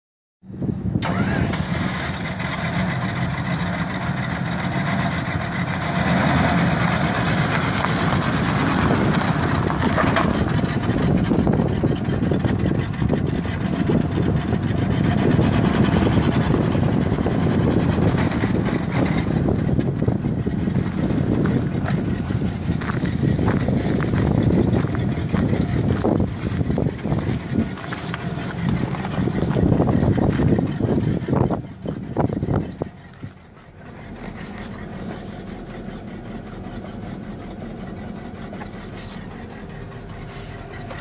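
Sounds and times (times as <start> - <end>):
pickup engine idling: 0.6 - 41.0.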